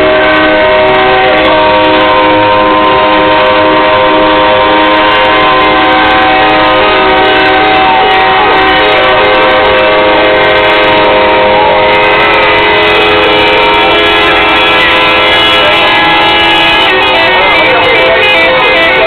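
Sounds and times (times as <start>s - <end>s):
truck air horns: 0.0s - 19.0s.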